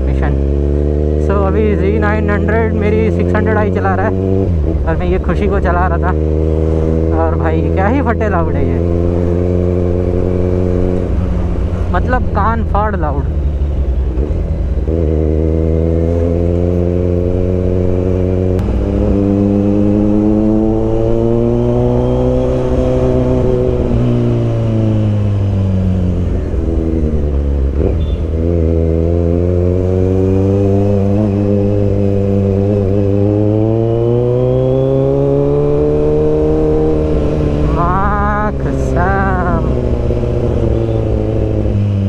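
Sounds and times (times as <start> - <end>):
loud motorcycle engine: 0.0 - 42.0.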